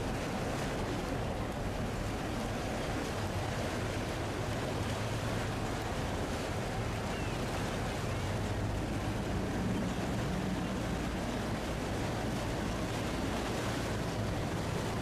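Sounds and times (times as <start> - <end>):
boat engine humming: 0.0 - 15.0
rushing water: 0.0 - 15.0.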